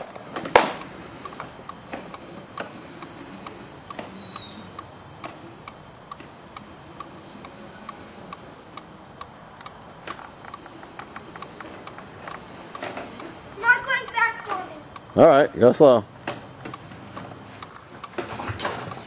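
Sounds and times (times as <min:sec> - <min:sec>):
steady ticking: 0:00.0 - 0:18.2
electric dirt bike running: 0:00.0 - 0:19.0.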